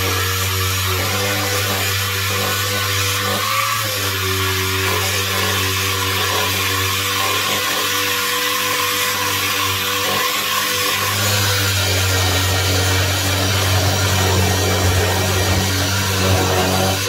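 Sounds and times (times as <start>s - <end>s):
pneumatic sander on metal: 0.0s - 17.0s.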